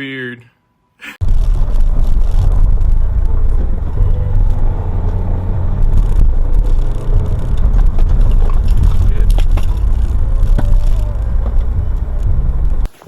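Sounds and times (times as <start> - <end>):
motorcycle riding on road: 1.2 - 12.9.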